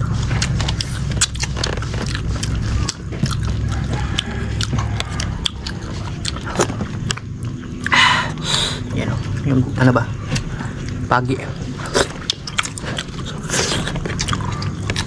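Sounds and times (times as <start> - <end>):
person chewing and smacking: 0.0 - 8.4, 10.2 - 15.0
low steady hum: 0.0 - 15.0.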